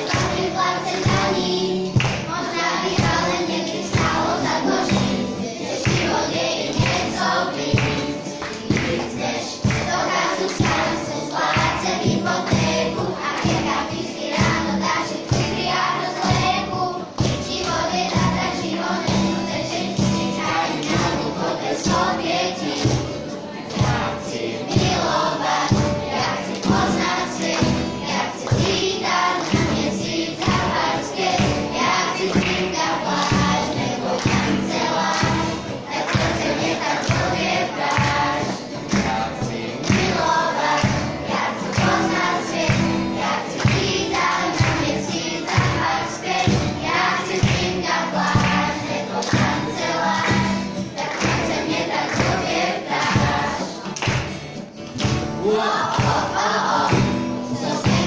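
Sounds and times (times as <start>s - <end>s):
accompaniment with steady beat: 0.0s - 58.0s
children's choir singing: 0.0s - 58.0s.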